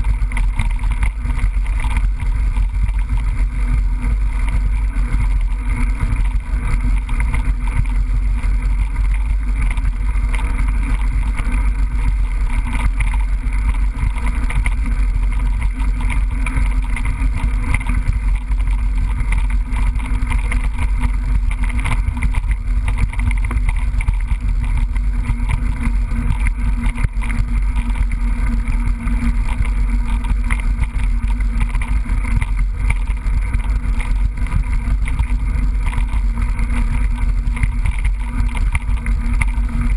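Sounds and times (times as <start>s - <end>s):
bike rattle: 0.0s - 39.9s
wind rumble: 0.0s - 39.9s.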